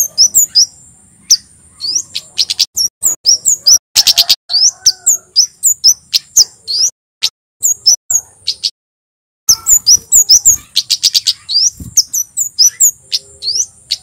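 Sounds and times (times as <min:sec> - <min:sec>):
bird singing high chips and whistles: 0:00.0 - 0:08.8, 0:09.5 - 0:14.0.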